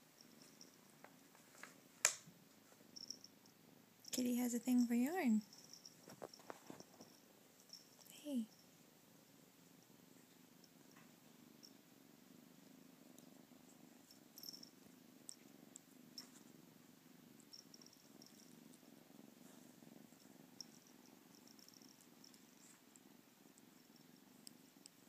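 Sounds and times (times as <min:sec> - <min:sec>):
kitten purring: 0:00.0 - 0:25.0.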